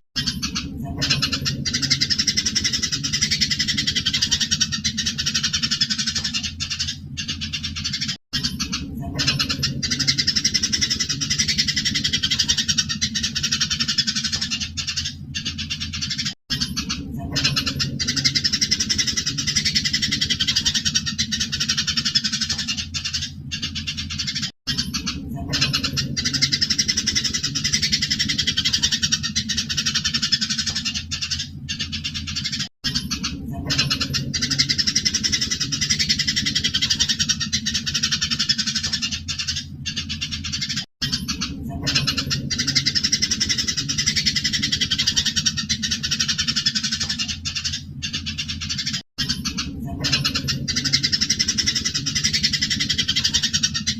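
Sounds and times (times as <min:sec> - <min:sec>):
low hum: 0:00.2 - 0:53.9
sparrows chirping: 0:00.2 - 0:53.9.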